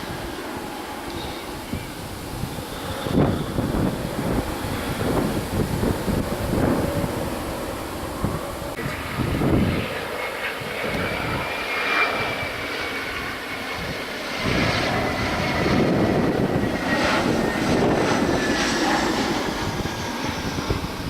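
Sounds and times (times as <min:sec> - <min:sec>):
jet engines passing with whine: 0:00.0 - 0:21.0.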